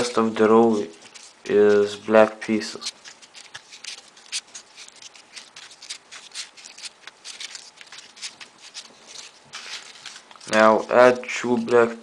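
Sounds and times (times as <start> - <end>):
small paper clicks: 0.0 - 11.7
crisp paper rustles: 0.0 - 12.0.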